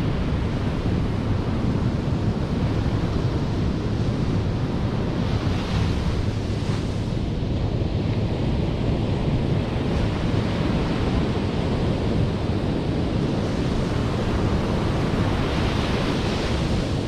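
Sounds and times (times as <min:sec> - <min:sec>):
ocean waves breaking: 0:00.0 - 0:17.0
wind buffeting microphone: 0:00.0 - 0:17.0.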